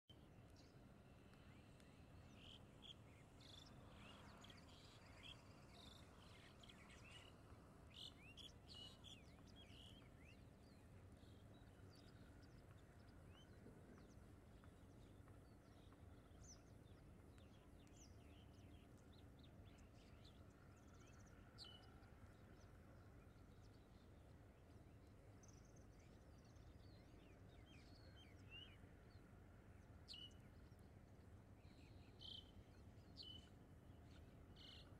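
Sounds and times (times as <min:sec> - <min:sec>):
low outdoor background noise: 0:00.1 - 0:34.9.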